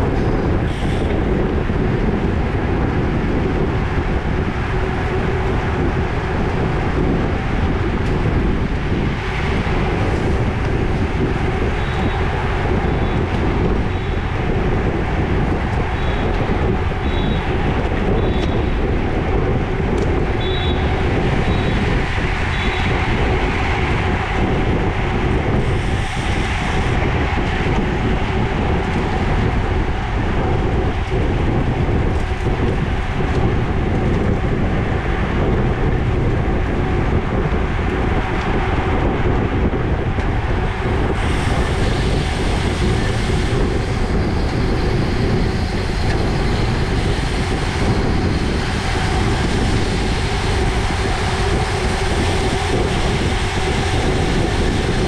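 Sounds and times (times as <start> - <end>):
tyre and road noise: 0.0 - 55.0
wind buffeting microphone: 0.0 - 55.0.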